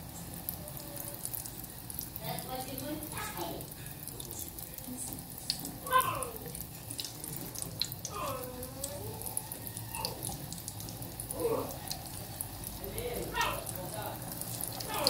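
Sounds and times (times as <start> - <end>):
batter frying in hot oil: 0.0 - 15.0.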